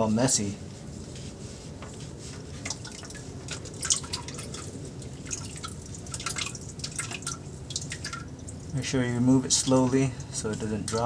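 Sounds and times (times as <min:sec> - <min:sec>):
oil dripping: 0:01.8 - 0:11.0.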